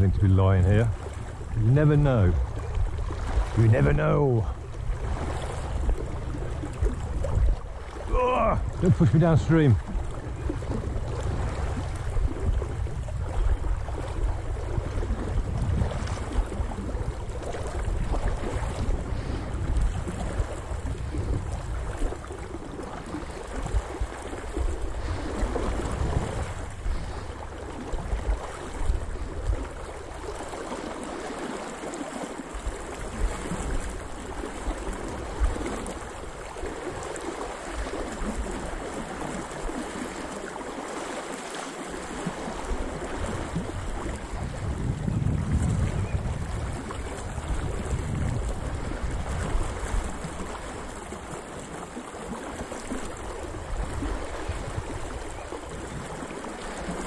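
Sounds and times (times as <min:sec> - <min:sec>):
river rushing and swirling: 0:00.0 - 0:57.0.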